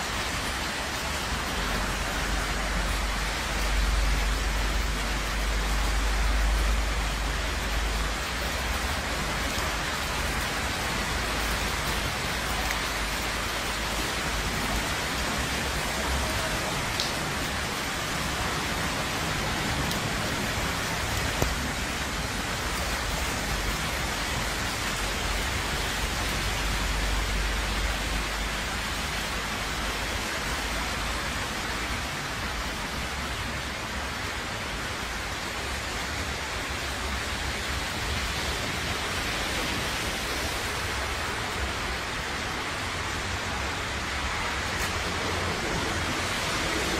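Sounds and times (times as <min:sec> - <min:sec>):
rain falling on street and rooftops: 0:00.0 - 0:46.9.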